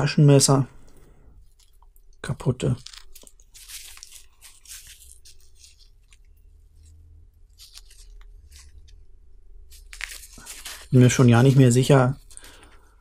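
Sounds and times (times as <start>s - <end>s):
faint steady hum: 0.0s - 13.0s
glove fabric rustling: 0.8s - 13.0s.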